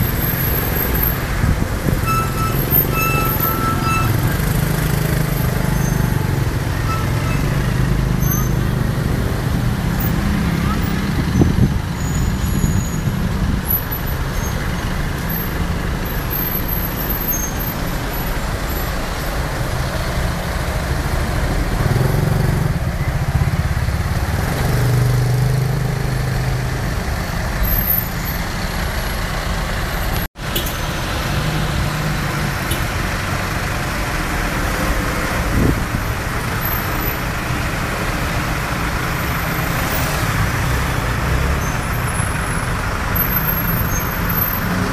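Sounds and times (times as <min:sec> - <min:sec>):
tyre and traffic noise: 0:00.0 - 0:44.9.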